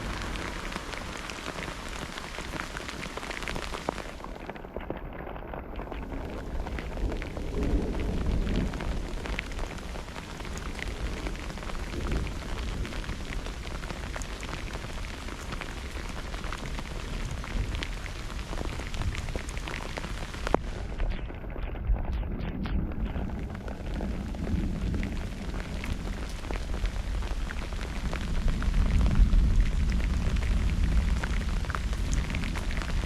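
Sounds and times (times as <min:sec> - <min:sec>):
low thunder rumble: 0:00.0 - 0:33.0
steady rain falling: 0:00.0 - 0:33.0.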